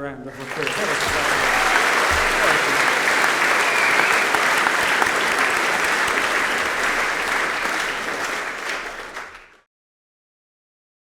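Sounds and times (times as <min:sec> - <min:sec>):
audience applauding: 0:00.3 - 0:09.7.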